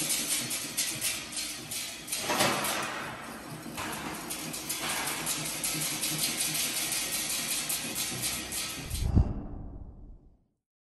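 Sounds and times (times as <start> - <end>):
steady mechanical noise: 0.0 - 10.2.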